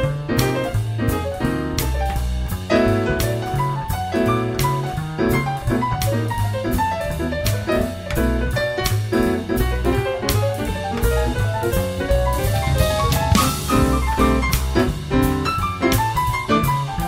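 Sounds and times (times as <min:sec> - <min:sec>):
bass line: 0:00.0 - 0:17.0
drum strokes: 0:00.0 - 0:17.0
piano: 0:00.0 - 0:17.0.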